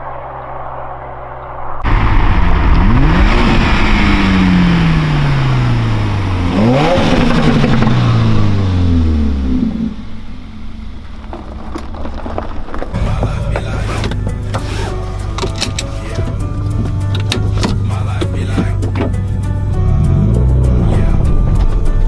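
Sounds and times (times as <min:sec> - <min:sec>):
car engine revving: 0:00.0 - 0:22.0
low engine hum: 0:00.0 - 0:22.0.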